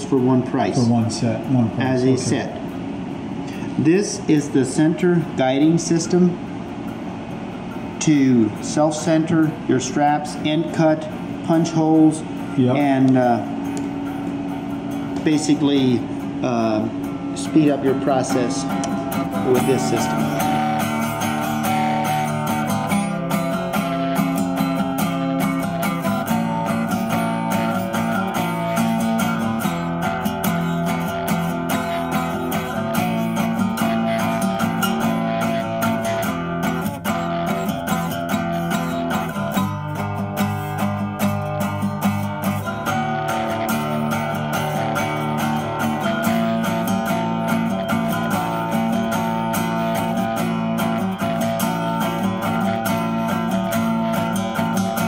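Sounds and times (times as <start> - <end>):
guitar music with steady beat: 0.0 - 55.0.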